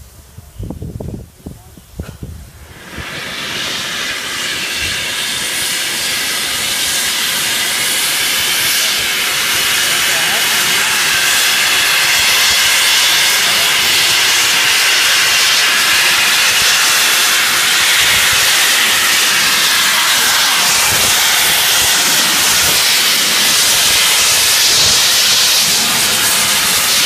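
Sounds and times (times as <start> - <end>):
steam hissing: 1.9 - 27.0.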